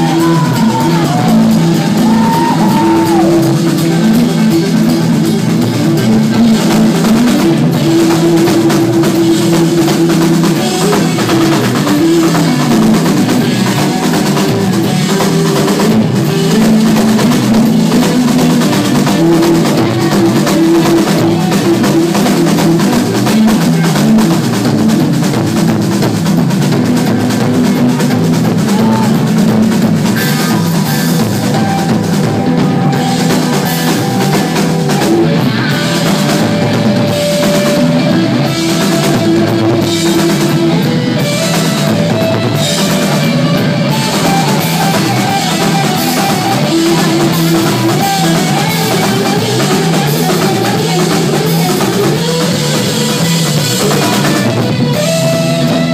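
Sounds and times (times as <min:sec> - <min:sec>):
bass guitar: 0:00.0 - 0:55.9
drum kit with crashing cymbals: 0:00.0 - 0:55.9
electric guitar sustained notes: 0:00.0 - 0:55.9.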